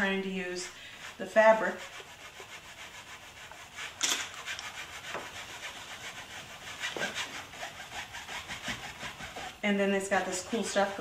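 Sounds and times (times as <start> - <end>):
paintbrush scrubbing canvas: 0.0 - 11.0.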